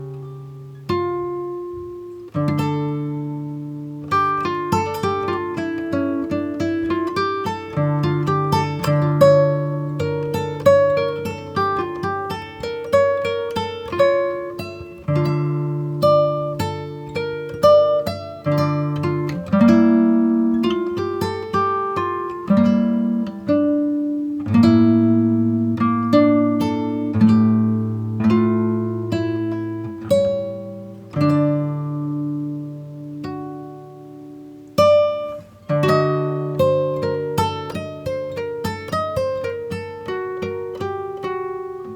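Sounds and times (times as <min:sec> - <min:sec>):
plucked acoustic guitar: 0:00.0 - 0:41.9.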